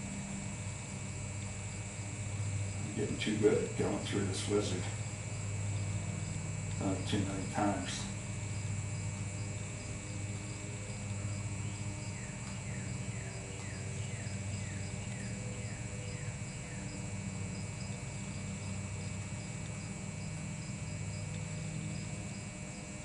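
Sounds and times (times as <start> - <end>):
steady low hum: 0.0 - 23.0
cricket chirping: 0.1 - 23.0.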